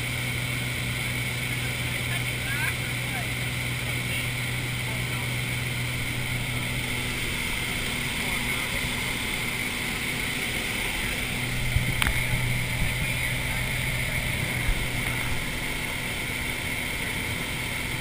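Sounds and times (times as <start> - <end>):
aircraft engine cabin drone: 0.0 - 18.0.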